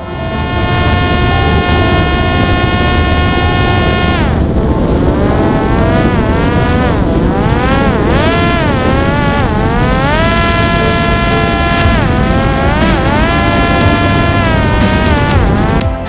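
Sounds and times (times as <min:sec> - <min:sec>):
wind noise: 0:00.0 - 0:15.8
electric propeller motor whining: 0:00.0 - 0:15.9.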